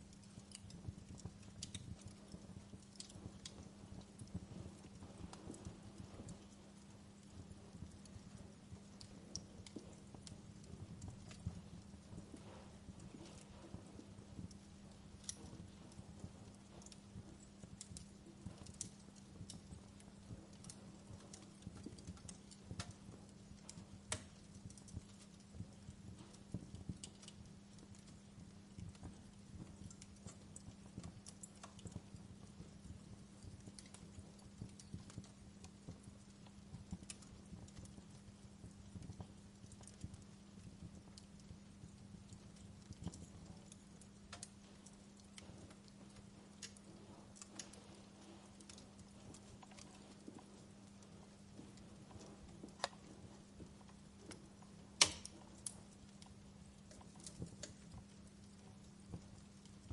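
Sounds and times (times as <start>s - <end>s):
faint low hum: 0.0s - 59.9s
wood fire crackling: 0.0s - 59.9s.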